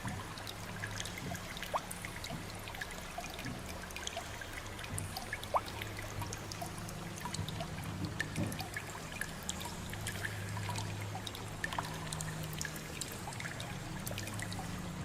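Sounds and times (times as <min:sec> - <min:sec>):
steady low hum: 0:00.0 - 0:15.0
water dripping and trickling: 0:00.0 - 0:15.0.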